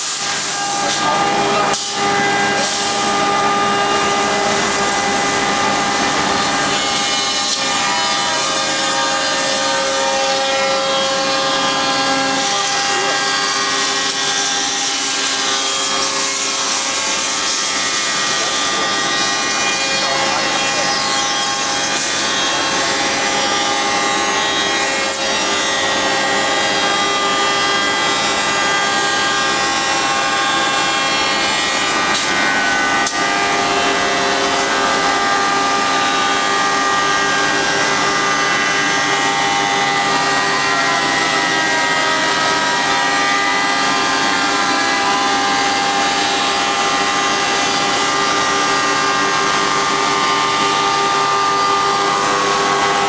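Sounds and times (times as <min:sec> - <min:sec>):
router spindle whine: 0:00.0 - 0:53.0
wood cutting and rushing noise: 0:00.0 - 0:53.0.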